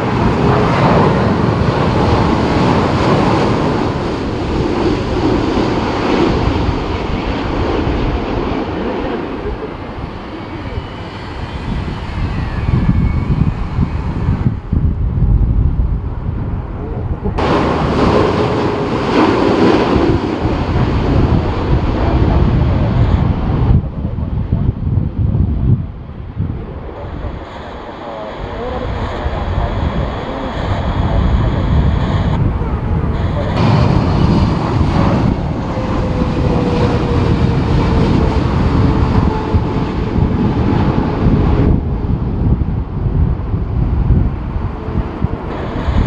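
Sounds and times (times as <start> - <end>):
jet engines rushing: 0.0 - 46.0
wind buffeting microphone: 0.0 - 46.0.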